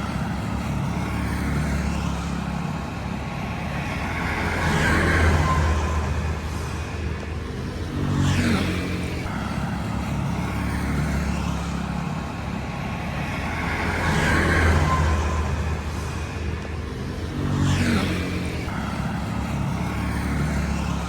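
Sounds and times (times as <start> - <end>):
road traffic: 0.0 - 21.0
vehicle passing: 0.0 - 21.0.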